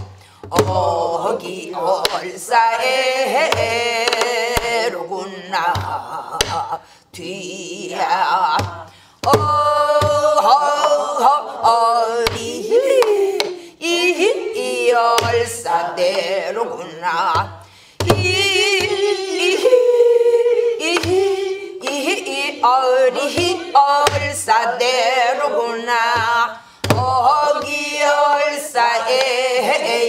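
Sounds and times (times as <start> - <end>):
woman singing with vibrato: 0.0 - 30.0.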